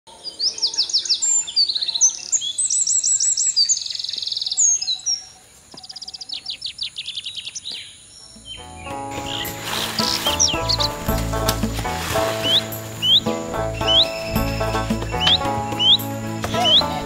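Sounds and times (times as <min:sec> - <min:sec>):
songbirds singing: 0:00.1 - 0:17.0.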